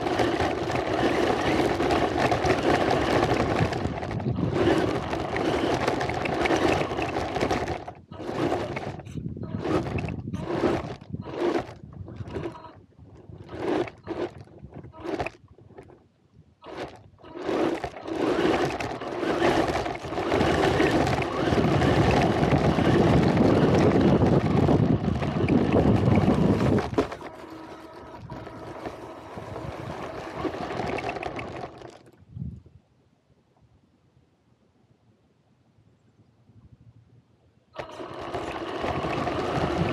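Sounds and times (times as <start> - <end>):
gravel crunching under tyres: 0.0 - 16.0, 16.6 - 32.2, 37.8 - 39.9
rc car motor: 0.0 - 16.0, 16.6 - 32.2, 37.8 - 39.9.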